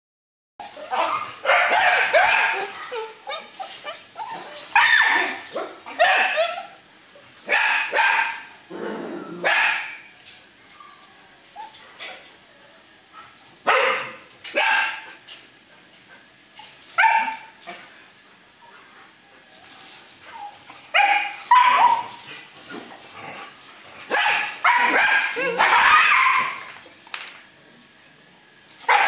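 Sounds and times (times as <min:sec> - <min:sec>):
dogs yipping and barking: 0:00.6 - 0:27.6, 0:28.2 - 0:29.0.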